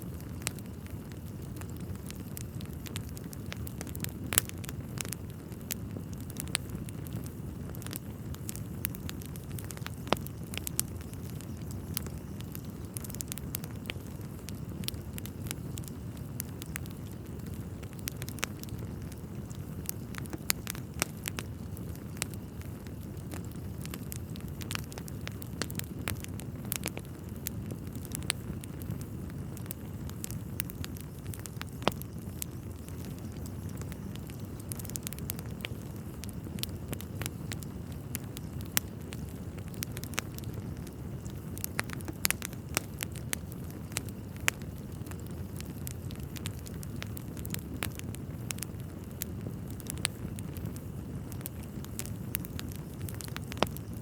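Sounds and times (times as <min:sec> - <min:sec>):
burning logs crackling and popping: 0:00.0 - 0:54.0
fire flames rumbling: 0:00.0 - 0:54.0.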